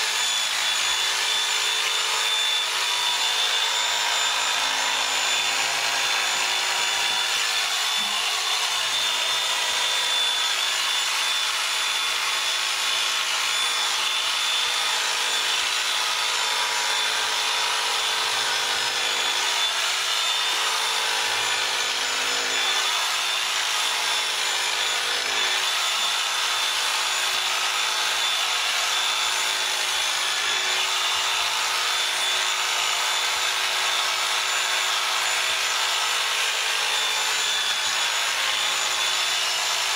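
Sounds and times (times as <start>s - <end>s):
electric shearing handpiece buzzing: 0.0s - 36.0s, 36.8s - 39.9s.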